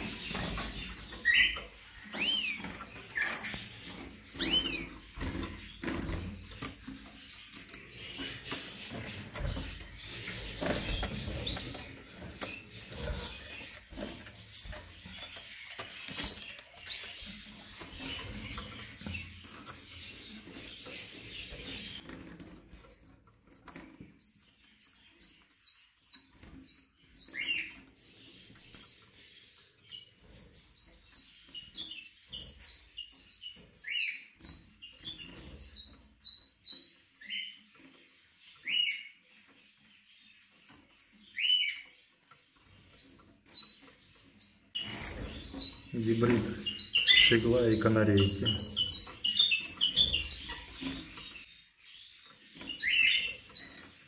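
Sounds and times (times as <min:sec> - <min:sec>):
bird high chirps: 0:00.0 - 0:22.0, 0:22.8 - 0:39.2, 0:39.9 - 0:54.0.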